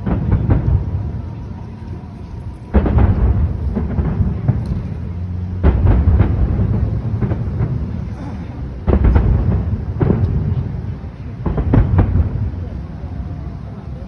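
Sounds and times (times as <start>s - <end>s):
sharp crackling pops: 0.0s - 12.7s
firework booms: 0.0s - 14.0s.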